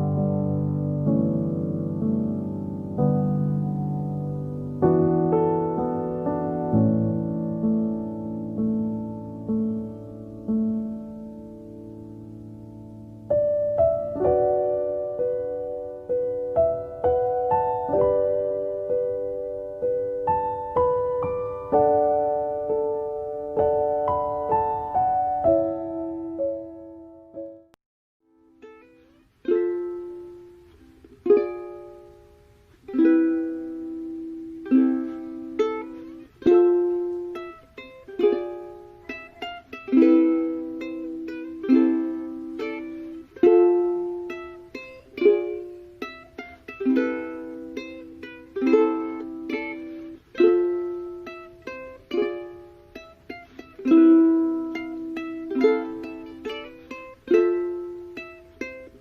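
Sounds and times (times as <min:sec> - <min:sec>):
plucked-string tune: 0:00.0 - 0:59.0.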